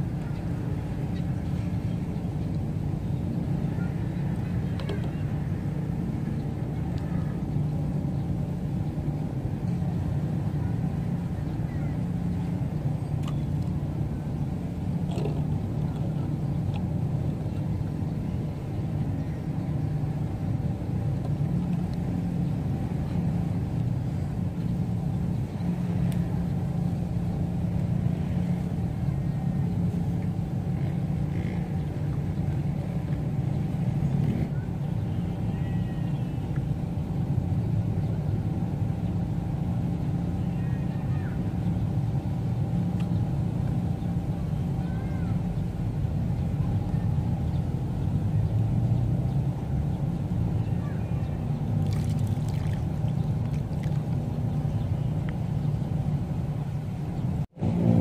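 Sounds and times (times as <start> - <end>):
low mechanical rumble with hum: 0.0 - 58.0.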